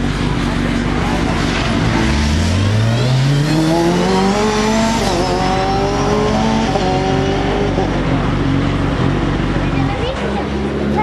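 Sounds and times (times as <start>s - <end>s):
racing car engine accelerating: 0.0s - 11.0s.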